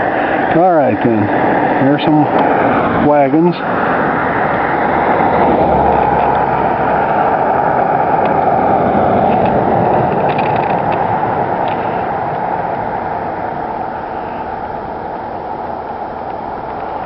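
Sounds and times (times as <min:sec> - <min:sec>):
passing vehicle rush: 0:00.0 - 0:17.0.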